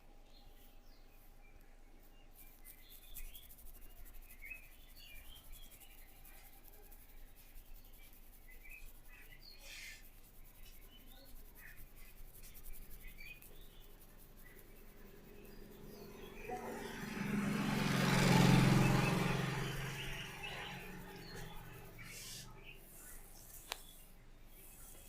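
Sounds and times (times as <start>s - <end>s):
small birds chirping: 0.0s - 25.0s
hands rustling hair: 2.4s - 16.8s, 19.1s - 25.0s.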